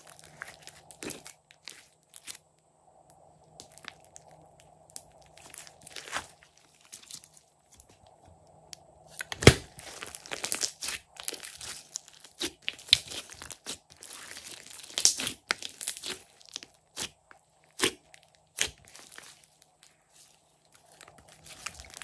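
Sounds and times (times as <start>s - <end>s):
slime crackling and popping: 0.0s - 2.4s, 3.6s - 7.4s, 9.2s - 22.0s.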